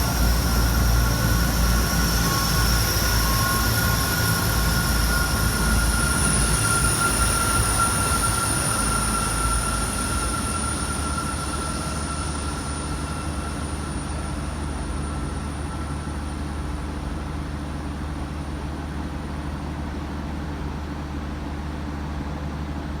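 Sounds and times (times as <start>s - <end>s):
train rumbling: 0.0s - 19.3s.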